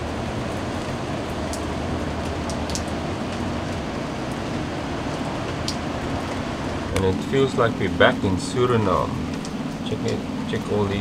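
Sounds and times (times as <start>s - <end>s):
barge engine drone: 0.0s - 11.0s
water wash: 0.0s - 11.0s.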